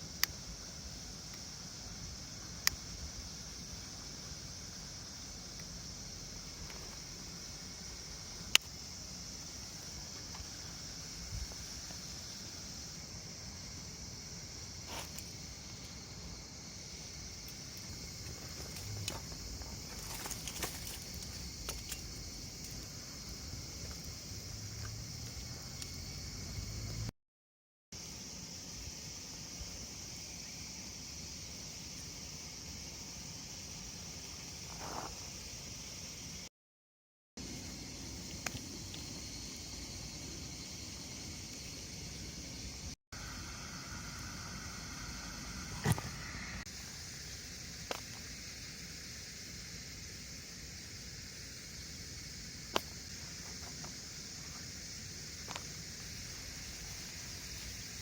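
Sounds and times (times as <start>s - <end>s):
high-pitched hiss: 0.0s - 27.1s, 28.0s - 36.5s, 37.4s - 58.0s.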